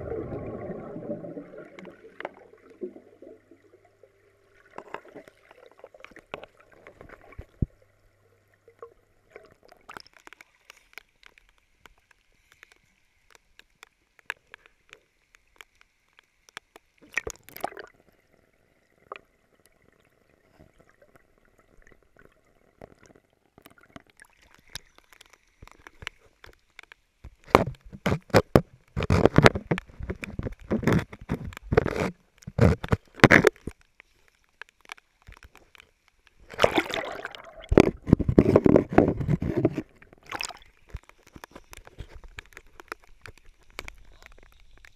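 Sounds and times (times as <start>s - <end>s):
raindrops ticking underwater: 0.0s - 44.9s
water splashing and sloshing: 0.0s - 44.9s.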